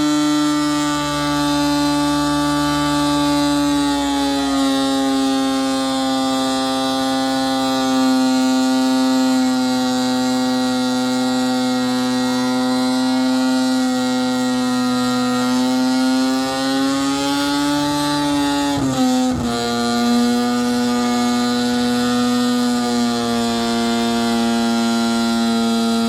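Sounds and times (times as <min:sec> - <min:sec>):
car engine at high revs: 0:00.0 - 0:26.0.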